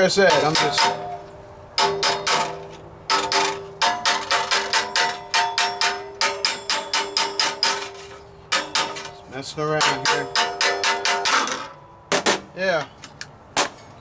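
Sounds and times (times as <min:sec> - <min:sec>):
metal ringing: 0:00.2 - 0:12.6
hammer striking sheet metal: 0:00.3 - 0:09.2, 0:09.8 - 0:12.5.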